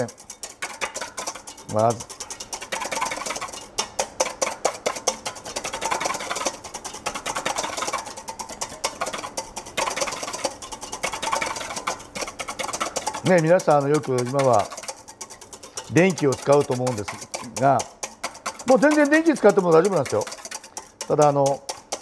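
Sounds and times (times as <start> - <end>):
whisk beating in a metal bowl: 0.0 - 22.0.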